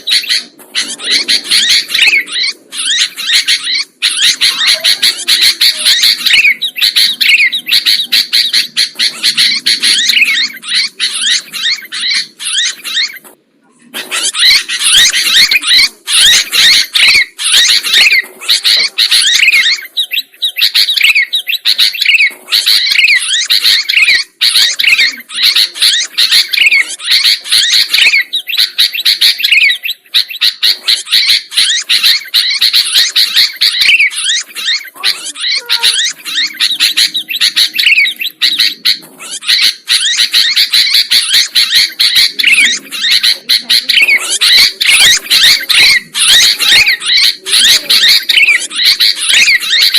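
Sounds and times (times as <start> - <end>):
bird chirping and whistling: 0.0 - 13.4, 14.0 - 49.9.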